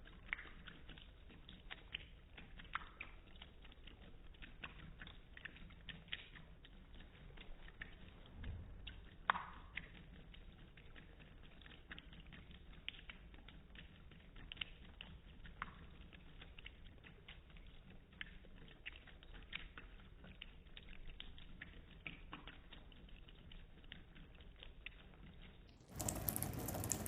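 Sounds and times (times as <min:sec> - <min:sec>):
cat lapping water: 0:00.0 - 0:27.0.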